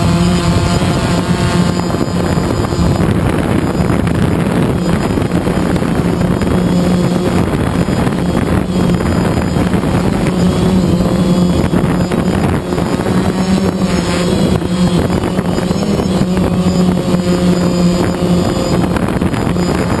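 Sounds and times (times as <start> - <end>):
drone motors buzzing: 0.0 - 20.0
wind on microphone: 0.0 - 20.0.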